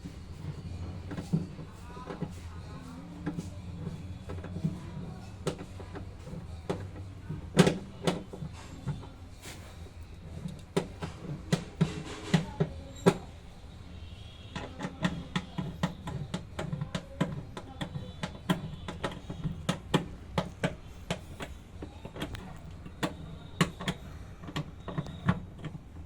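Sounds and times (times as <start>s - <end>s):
clicking and knocking: 0.0s - 2.4s, 3.2s - 9.2s, 10.0s - 13.4s, 14.2s - 26.0s
washing machine humming: 0.0s - 26.0s.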